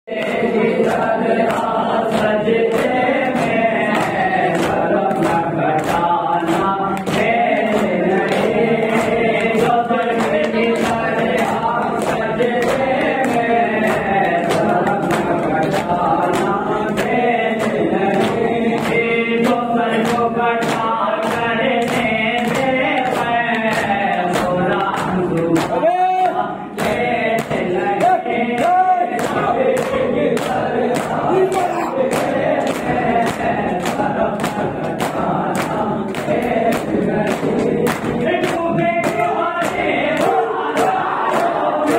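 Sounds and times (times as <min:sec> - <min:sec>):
men chanting in chorus: 0:00.0 - 0:41.9.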